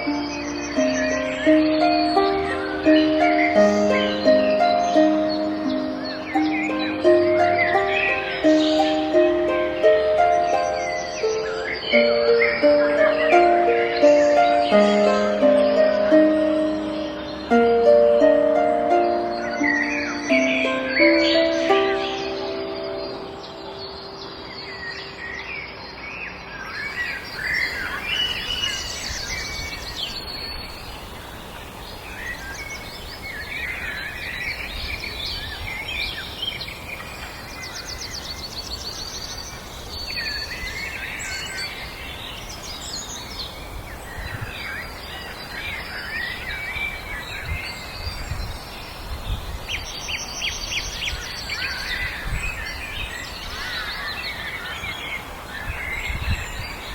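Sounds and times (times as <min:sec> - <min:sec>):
songbirds singing and chirping: 0:00.0 - 0:56.9
steady background hiss: 0:00.0 - 0:56.9.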